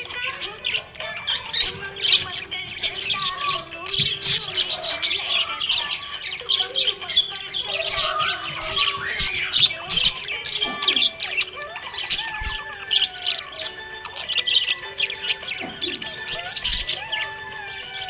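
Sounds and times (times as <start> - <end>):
parrots chirping and squawking: 0.0 - 18.0.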